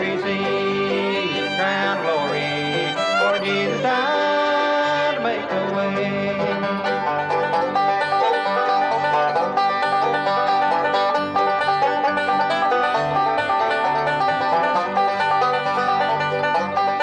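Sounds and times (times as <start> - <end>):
bluegrass band playing: 0.0 - 17.0
quick banjo picking: 0.0 - 17.0.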